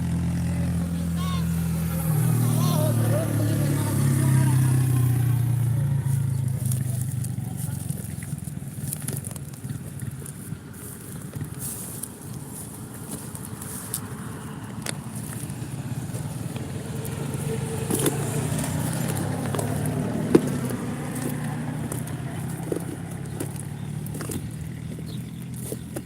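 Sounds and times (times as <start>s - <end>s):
vehicle engine hum passing: 0.0s - 26.0s.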